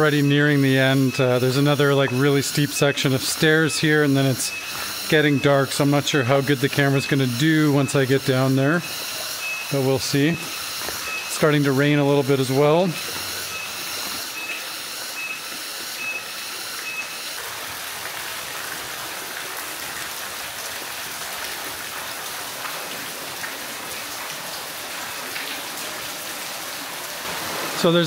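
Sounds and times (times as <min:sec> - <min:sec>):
rain hissing: 0:00.0 - 0:28.0
stream water rushing: 0:00.0 - 0:28.0.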